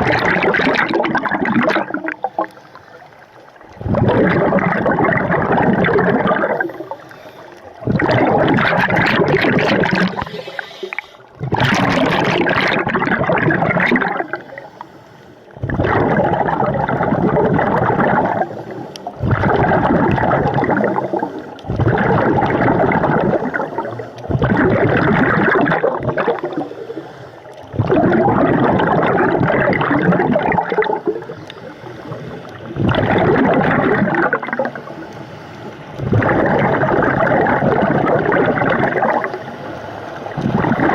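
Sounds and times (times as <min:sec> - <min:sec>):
diver exhaling bubbles underwater: 0:00.0 - 0:14.7, 0:15.6 - 0:26.7, 0:27.6 - 0:35.0, 0:35.9 - 0:39.5, 0:40.2 - 0:40.9.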